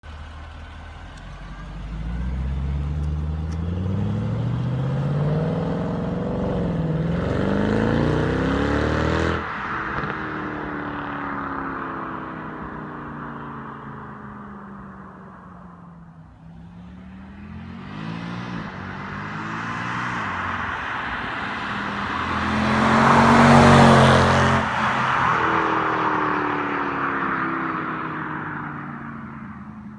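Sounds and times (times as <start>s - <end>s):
car driving past: 0.0s - 14.0s, 16.5s - 29.9s
car engine accelerating: 0.0s - 29.9s.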